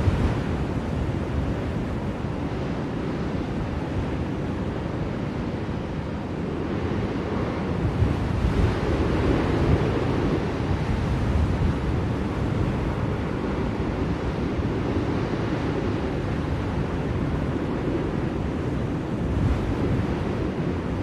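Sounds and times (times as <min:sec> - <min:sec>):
blizzard wind rushing: 0:00.0 - 0:21.0.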